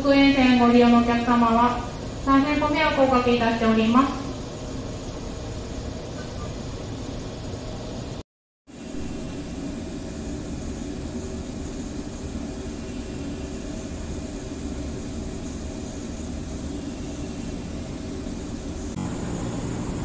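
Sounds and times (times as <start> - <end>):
electric train low hum: 0.0 - 20.0
faint high whine: 0.0 - 20.0.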